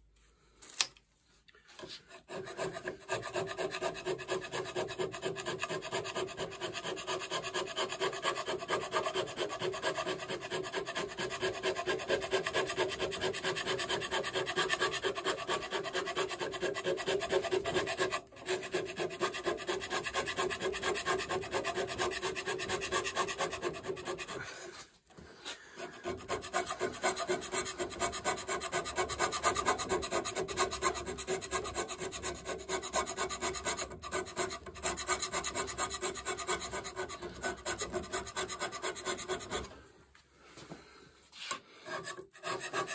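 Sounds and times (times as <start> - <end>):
hand scraper scraping metal: 1.7 - 39.8, 41.4 - 42.9.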